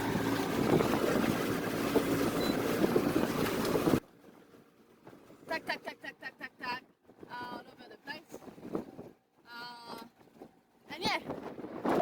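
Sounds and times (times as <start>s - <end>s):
wind buffeting microphone: 0.0s - 4.4s, 6.6s - 12.0s
water rushing past hulls: 0.0s - 12.0s.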